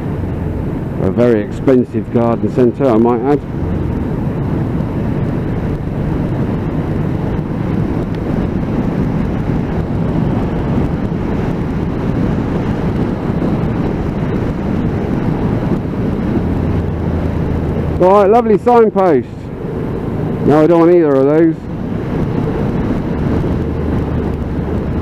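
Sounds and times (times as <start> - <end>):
motorcycle road noise: 0.0 - 25.0
wind rush: 0.0 - 25.0.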